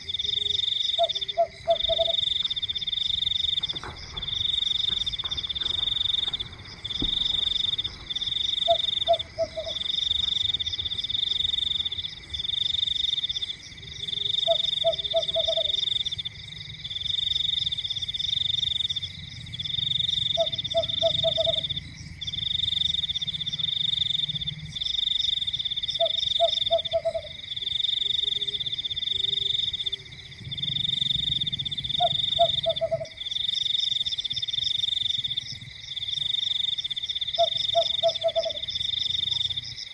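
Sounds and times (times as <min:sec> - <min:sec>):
frog low croaking: 0:00.0 - 0:39.9
insects high trilling: 0:00.0 - 0:39.9.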